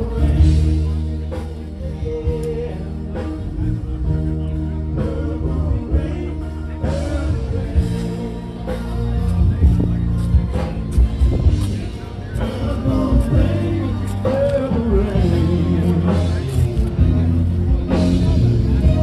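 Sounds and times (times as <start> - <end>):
song with singing and bass: 0.0 - 19.0.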